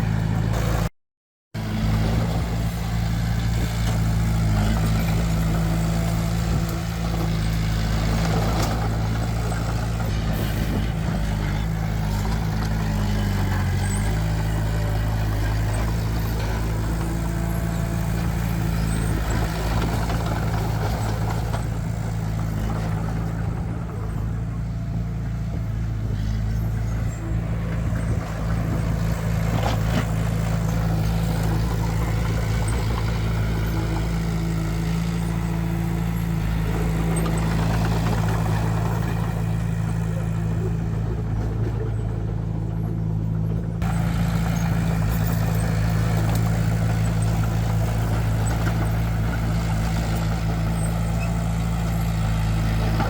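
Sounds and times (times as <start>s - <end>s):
heavy diesel engine droning: 0.0s - 0.9s, 1.6s - 53.0s.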